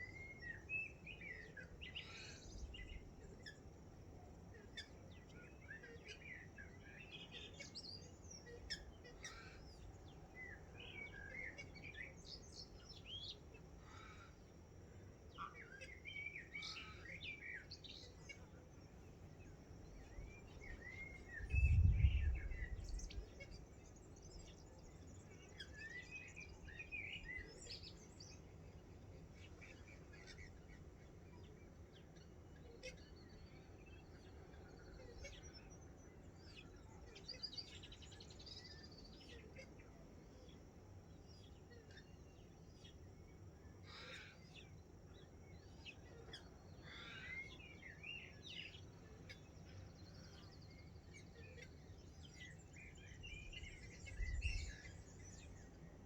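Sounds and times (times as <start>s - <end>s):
birds chirping and warbling: 0.0s - 56.0s.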